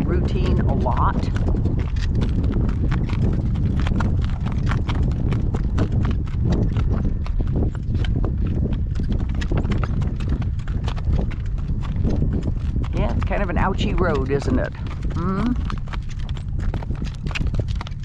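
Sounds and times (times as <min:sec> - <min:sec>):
hooves clip-clopping on stony road: 0:00.0 - 0:18.0
wind rumbling on microphone: 0:00.0 - 0:18.0.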